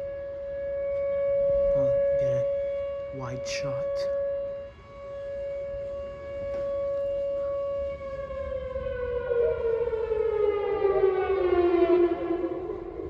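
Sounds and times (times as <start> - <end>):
tornado warning siren: 0.0 - 13.0.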